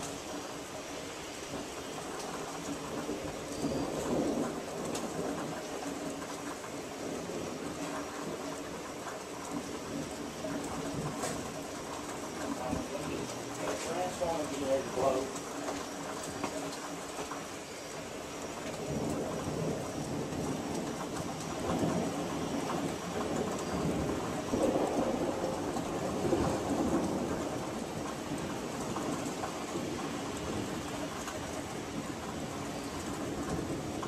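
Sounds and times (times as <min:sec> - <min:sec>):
distant thunder rolling: 0:00.0 - 0:34.0
steady rain: 0:00.0 - 0:34.0.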